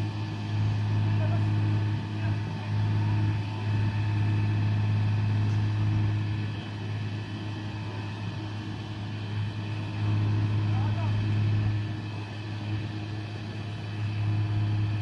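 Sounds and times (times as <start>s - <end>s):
crane engine humming: 0.0s - 15.0s.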